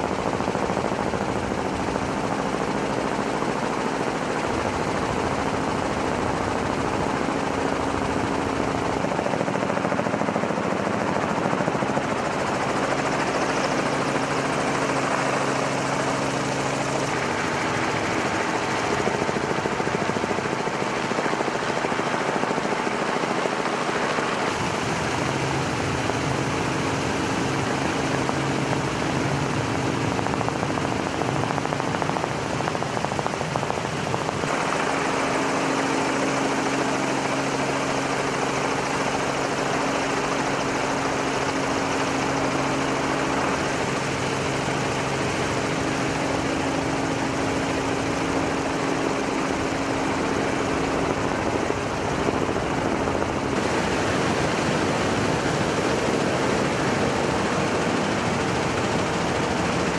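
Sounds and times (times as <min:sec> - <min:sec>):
engine drone at speed: 0:00.0 - 0:59.9.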